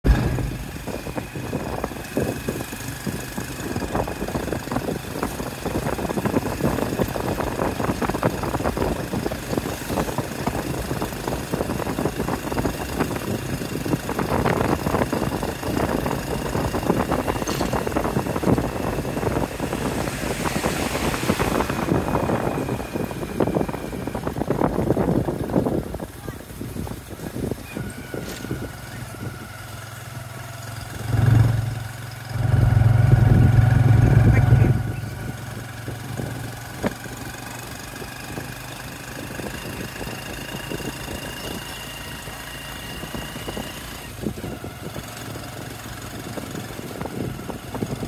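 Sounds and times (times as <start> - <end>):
small engine running: 0.0 - 48.0.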